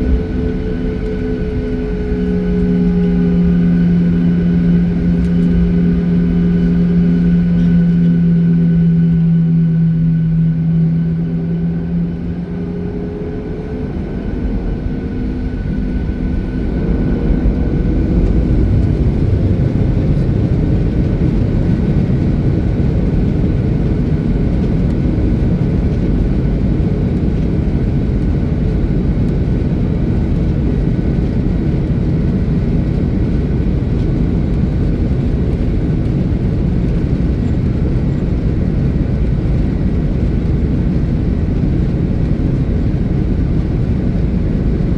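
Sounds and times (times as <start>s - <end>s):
engine and airflow rush in cabin: 0.0s - 44.9s.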